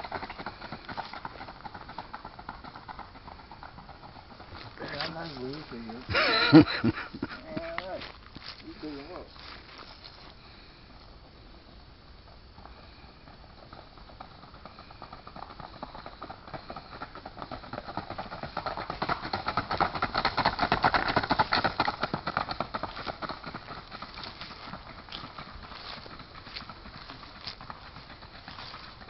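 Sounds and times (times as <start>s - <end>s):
horse hoofbeats: 0.0s - 10.0s, 12.2s - 29.0s.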